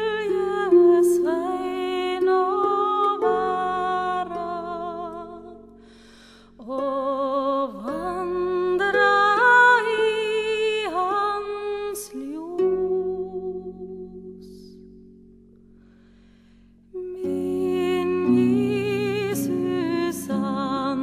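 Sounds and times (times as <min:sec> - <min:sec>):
woman singing with vibrato: 0:00.0 - 0:05.6, 0:06.6 - 0:14.7, 0:17.0 - 0:21.0
harp accompaniment: 0:00.0 - 0:21.0.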